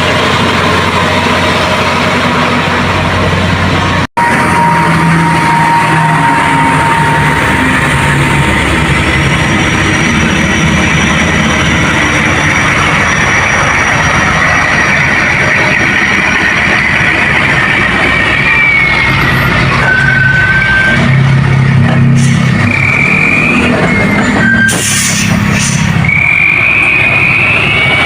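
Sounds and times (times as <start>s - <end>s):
heavy vehicle engine running: 0.0s - 28.0s
road noise: 0.0s - 28.0s.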